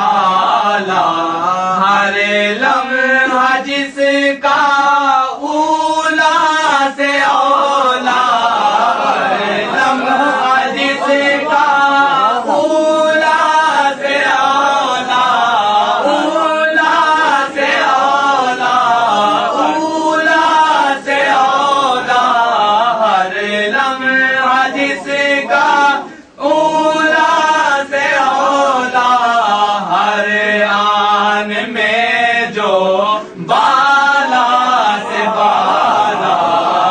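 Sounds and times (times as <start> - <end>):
man chanting verse: 0.0 - 36.9.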